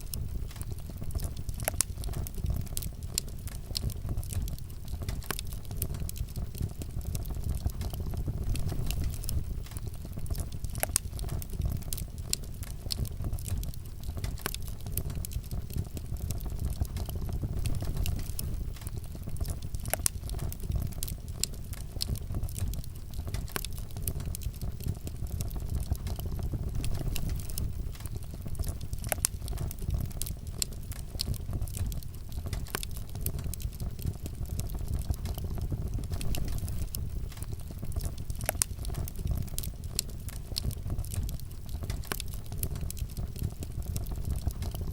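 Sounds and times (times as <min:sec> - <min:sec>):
fire crackling and popping: 0:00.0 - 0:44.9
fire flames rumbling: 0:00.0 - 0:44.9.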